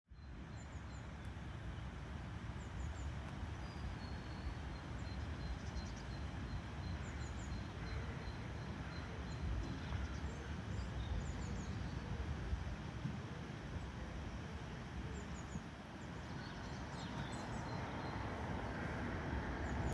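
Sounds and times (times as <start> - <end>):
low rumbling background noise: 0.2 - 19.9.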